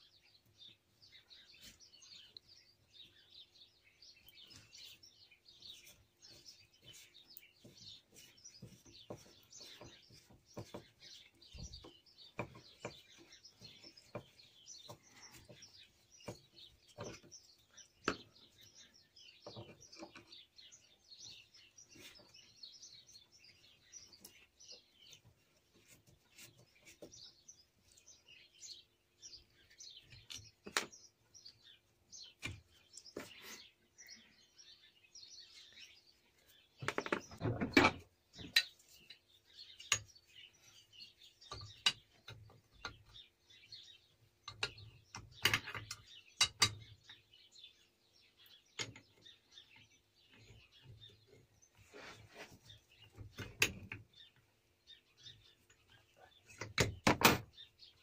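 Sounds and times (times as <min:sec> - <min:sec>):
birds chirping faintly: 0:00.0 - 0:58.0.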